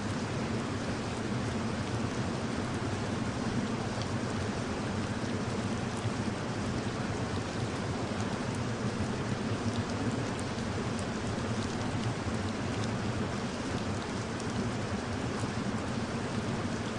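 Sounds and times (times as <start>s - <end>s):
faint scattered raindrops: 0.0s - 16.9s
steady rain hiss: 0.0s - 16.9s.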